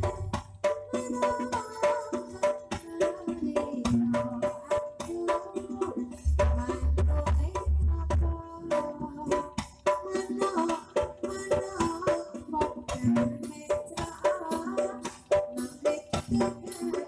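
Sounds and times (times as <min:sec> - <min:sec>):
hand drum strikes: 0:00.0 - 0:17.0.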